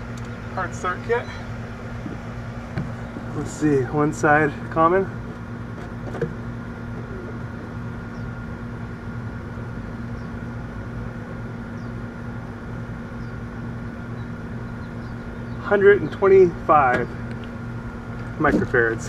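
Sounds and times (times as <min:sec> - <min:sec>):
high machine whine: 0:00.0 - 0:19.0
machinery humming: 0:00.0 - 0:19.0.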